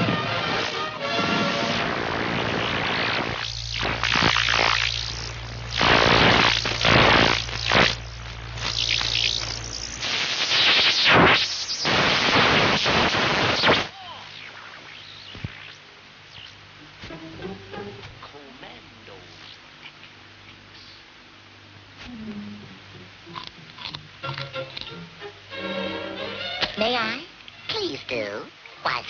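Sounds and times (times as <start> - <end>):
low steady hum: 0.0 - 10.7, 11.5 - 29.0
television static hiss: 0.0 - 29.0.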